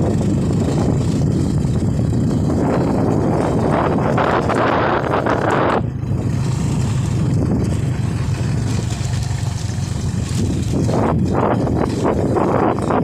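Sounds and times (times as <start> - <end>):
motorcycle engine drone: 0.0 - 13.0
wind on microphone: 0.0 - 13.0.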